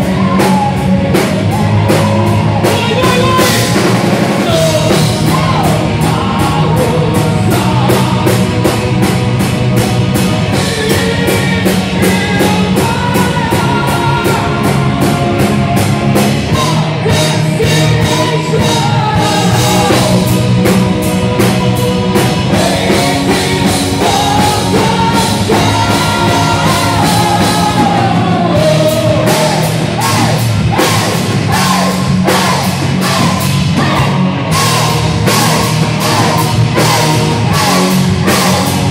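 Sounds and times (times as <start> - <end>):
person singing: 0.0 - 9.6, 10.2 - 15.8, 16.4 - 38.9
fast drumming: 0.0 - 38.9
metal band playing live: 0.0 - 38.9.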